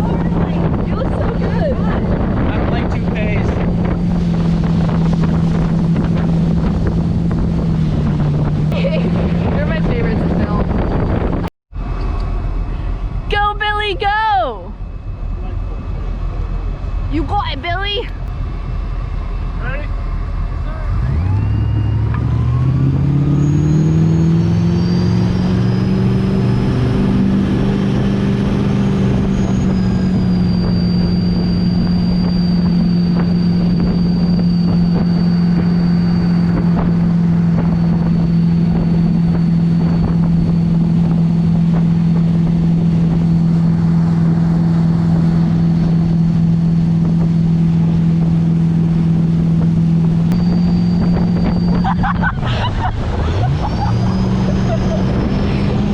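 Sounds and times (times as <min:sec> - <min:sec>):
motorboat engine: 0:00.0 - 0:55.9.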